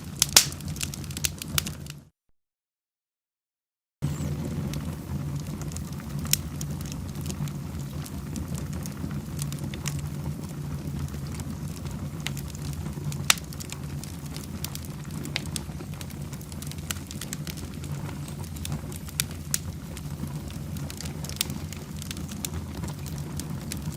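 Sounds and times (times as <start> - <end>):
wood fire crackling and popping: 0.0 - 2.1, 4.0 - 23.9.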